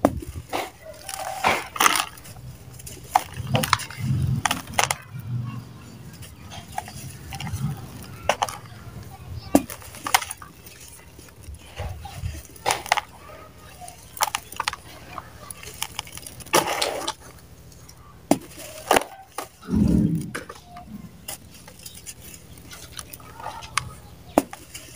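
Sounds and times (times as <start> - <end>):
dry mud crunching: 0.0 - 24.9.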